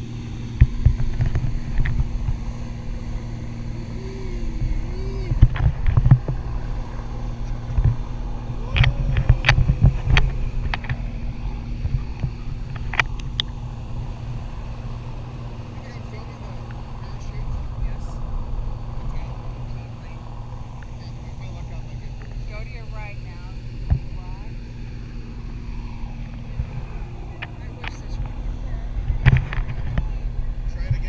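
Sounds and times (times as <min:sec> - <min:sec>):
wind noise low hum: 0:00.0 - 0:31.0.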